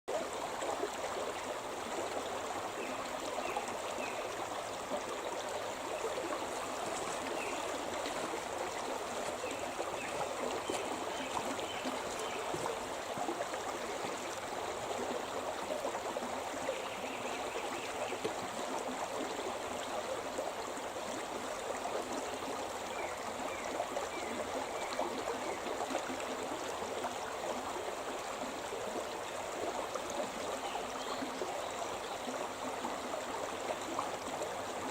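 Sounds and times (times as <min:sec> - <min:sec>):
river flowing over rocks: 0:00.2 - 0:34.9.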